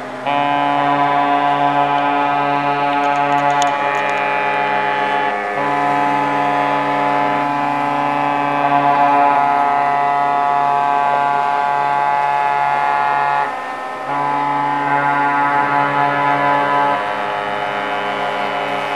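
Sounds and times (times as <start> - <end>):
ships' horns sounding together: 0.0 - 18.9.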